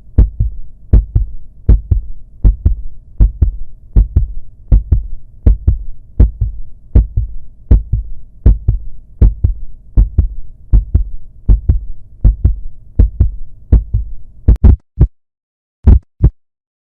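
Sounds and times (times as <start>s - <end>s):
low hum: 0.0s - 14.6s
heartbeat thumps: 0.1s - 15.1s, 15.9s - 16.4s.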